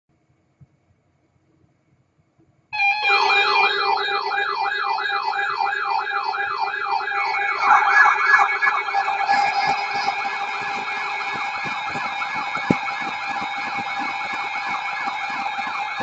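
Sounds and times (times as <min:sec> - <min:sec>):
electronic emergency alert tone: 0:02.8 - 0:16.0
siren-like wail: 0:02.8 - 0:16.0.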